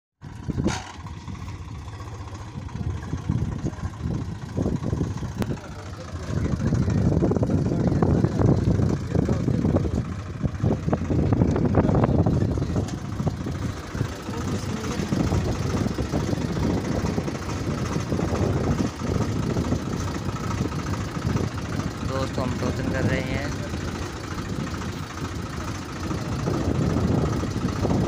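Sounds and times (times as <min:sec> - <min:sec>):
tractor diesel engine idling: 0:00.2 - 0:28.0.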